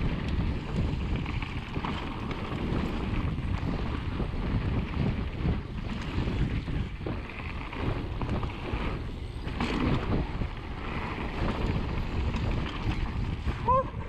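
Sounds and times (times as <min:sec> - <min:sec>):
bike tyres rolling on dirt: 0:00.0 - 0:14.0
wind buffeting microphone: 0:00.0 - 0:14.0.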